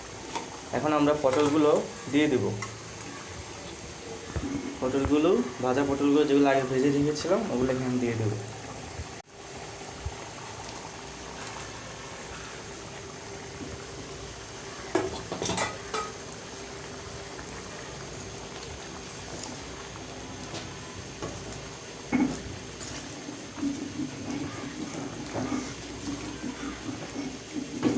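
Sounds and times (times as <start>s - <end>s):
gravy simmering in a pot: 0.0s - 27.9s.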